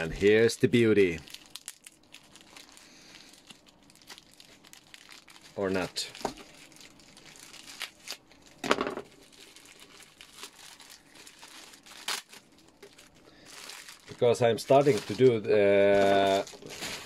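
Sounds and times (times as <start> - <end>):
plastic packaging crinkling and tearing: 0.0 - 17.0.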